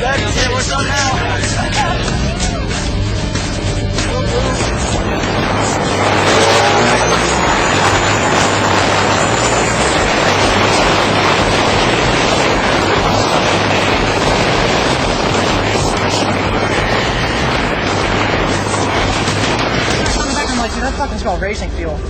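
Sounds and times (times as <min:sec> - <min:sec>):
road and wind noise: 0:00.0 - 0:22.0
vehicle engine rumble: 0:00.0 - 0:22.0.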